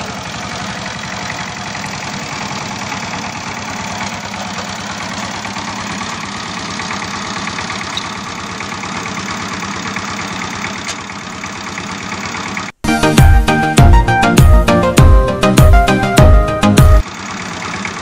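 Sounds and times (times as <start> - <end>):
engine chugging: 0.0 - 18.0.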